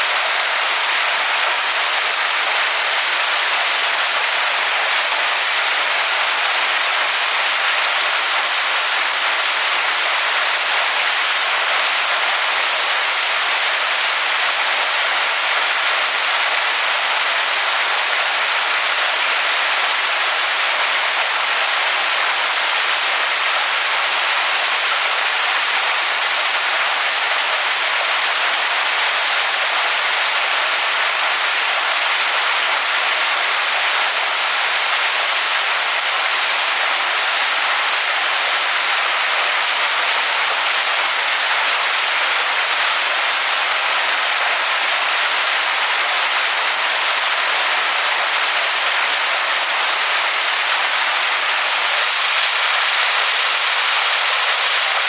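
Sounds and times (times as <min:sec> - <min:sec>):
waterfall pouring onto rocks: 0:00.0 - 0:55.0.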